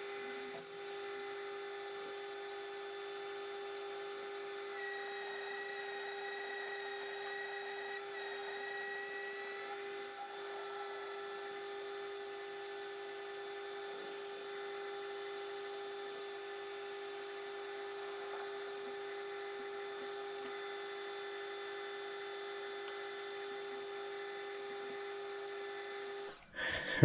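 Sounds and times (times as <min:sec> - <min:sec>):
metal lathe whining: 0:00.0 - 0:26.4.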